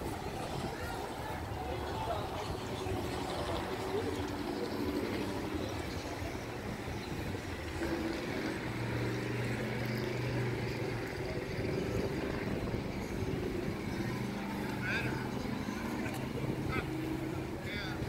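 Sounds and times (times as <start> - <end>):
motor engine droning: 0.0 - 18.0
outdoor background noise: 0.0 - 18.0.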